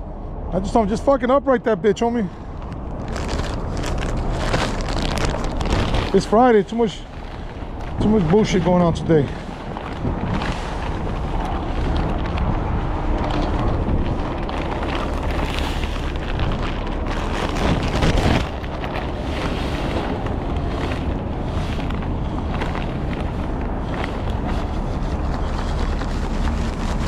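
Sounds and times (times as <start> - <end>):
low vehicle rumble: 0.0 - 27.0
wind buffeting microphone: 0.0 - 27.0.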